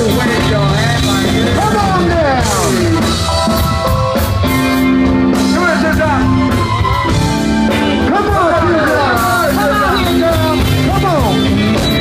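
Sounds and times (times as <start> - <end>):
bass guitar: 0.0 - 12.0
drums: 0.0 - 12.0
keyboard: 0.0 - 12.0.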